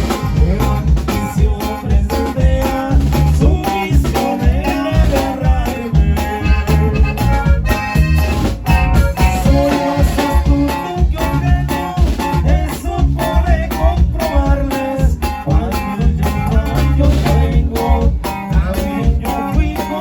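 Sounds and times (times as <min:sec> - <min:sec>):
accordion: 0:00.0 - 0:20.0
bass: 0:00.0 - 0:20.0
plucked guitar melody: 0:00.0 - 0:20.0
steady drum beat: 0:00.0 - 0:20.0.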